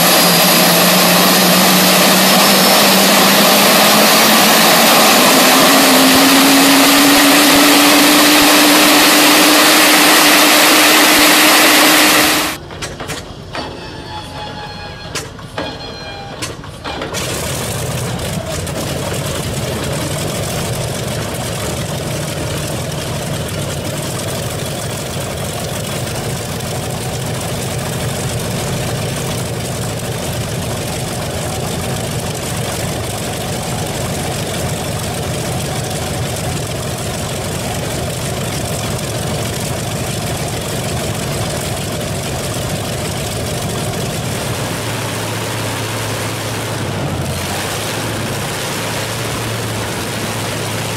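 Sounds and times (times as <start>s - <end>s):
radial aircraft engine rumbling: 0.0s - 50.9s.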